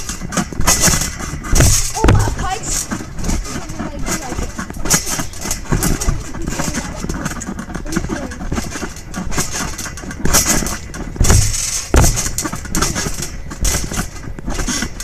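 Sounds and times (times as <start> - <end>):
trampoline mat thumping: 0.0 - 15.0.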